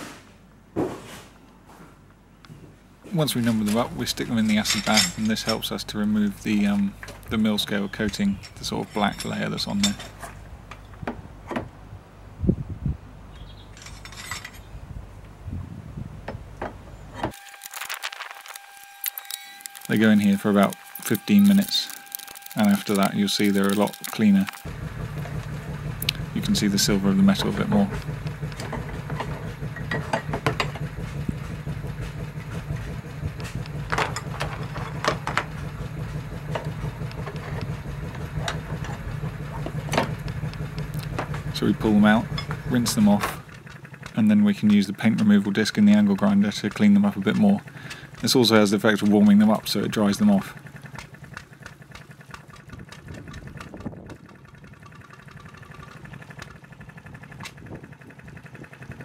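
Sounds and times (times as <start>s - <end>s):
low engine hum: 3.0s - 59.0s.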